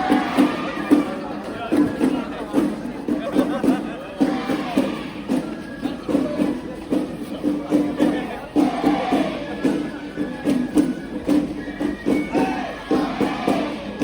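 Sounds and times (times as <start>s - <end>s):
crowd chanting and shouting: 0.0s - 14.0s
drums and metal percussion: 0.0s - 14.0s.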